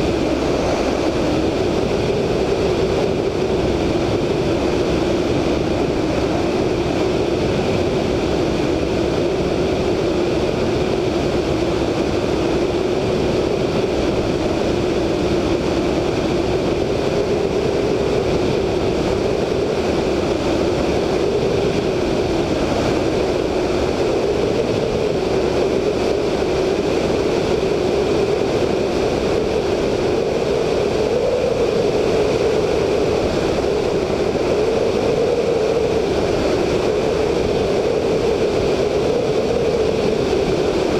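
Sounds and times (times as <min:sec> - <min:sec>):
heavy wind rush: 0:00.0 - 0:40.9
radial aircraft engine droning: 0:00.0 - 0:40.9.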